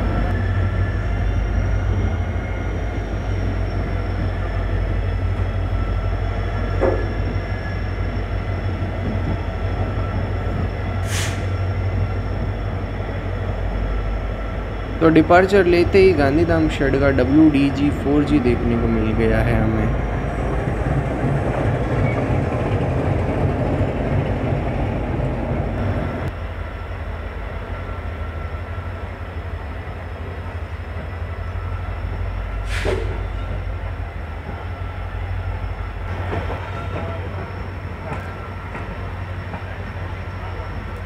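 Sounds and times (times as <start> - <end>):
diesel locomotive engine: 0.0 - 41.0
train coach rumbling on rails: 0.0 - 41.0.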